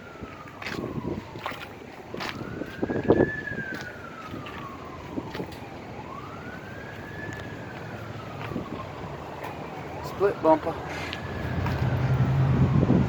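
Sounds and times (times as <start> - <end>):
emergency siren wailing: 0.0 - 13.0
moving vehicle rumble: 0.0 - 13.0.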